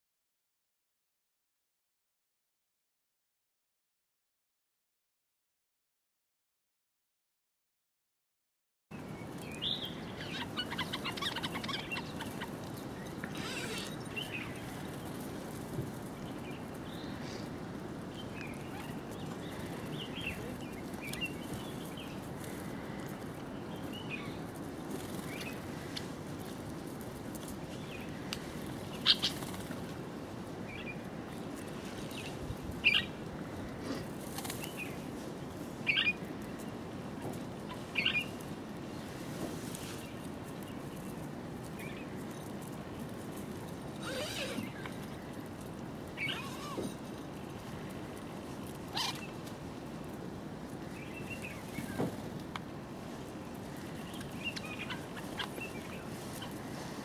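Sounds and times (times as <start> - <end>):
birds chirping: 8.9 - 49.7, 50.6 - 52.4, 53.0 - 57.0
steady low background noise: 8.9 - 57.0
wings fluttering: 10.0 - 57.0.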